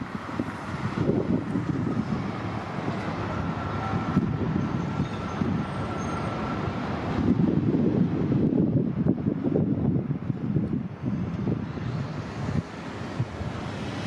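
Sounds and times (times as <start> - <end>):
bus engines rumbling: 0.0 - 14.0.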